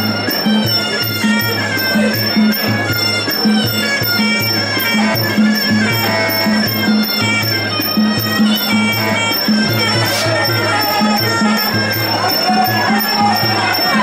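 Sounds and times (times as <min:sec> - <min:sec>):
reedy oboe melody: 0:00.0 - 0:14.0
repeating drum pattern: 0:00.0 - 0:14.0
small cymbals: 0:00.0 - 0:14.0.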